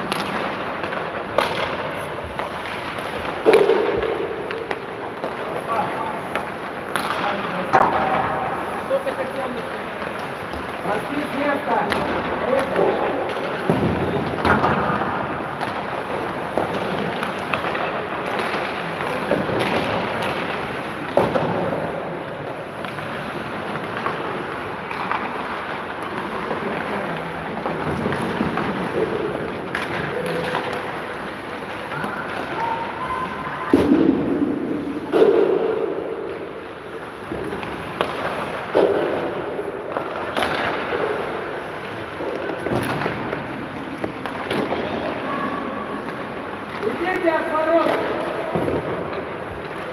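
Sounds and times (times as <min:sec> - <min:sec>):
echoing rink rumble: 0:00.0 - 0:49.9
hockey sticks and pucks clacking: 0:00.0 - 0:49.9
skates on ice: 0:00.0 - 0:49.9.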